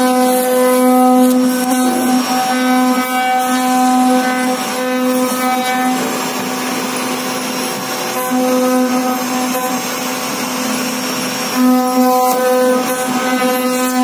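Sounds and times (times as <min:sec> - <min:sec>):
router spindle whine: 0:00.0 - 0:14.0.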